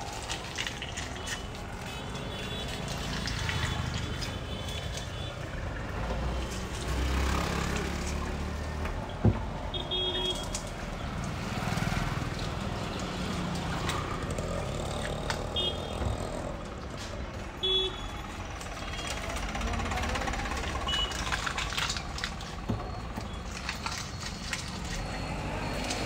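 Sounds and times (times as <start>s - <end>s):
rumble of traffic: 0.0s - 26.0s.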